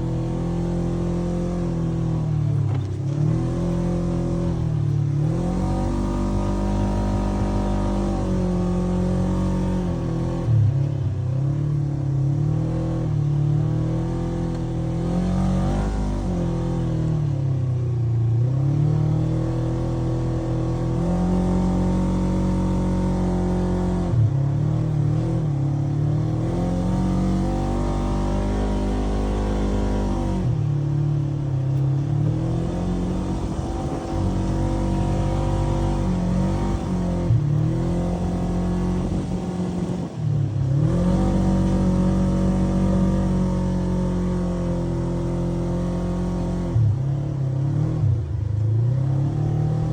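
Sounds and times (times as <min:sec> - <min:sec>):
engine revving: 0:00.0 - 0:17.5, 0:18.3 - 0:49.9.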